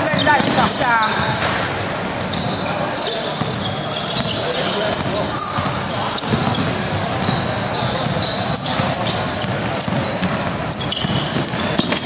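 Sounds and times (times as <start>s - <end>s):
basketball bouncing on gym court: 0.0s - 12.0s
hubbub of voices: 0.0s - 12.0s.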